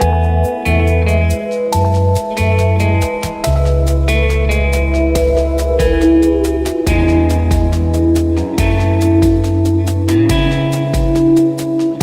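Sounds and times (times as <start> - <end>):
guitar instrumental music: 0.0 - 12.0.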